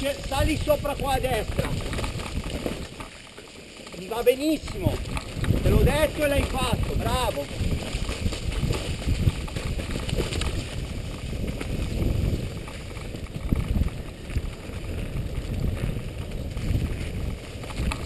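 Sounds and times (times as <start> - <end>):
wind buffeting microphone: 0.0 - 3.1, 4.4 - 18.0
bike tyres rumbling over dirt: 0.0 - 18.0.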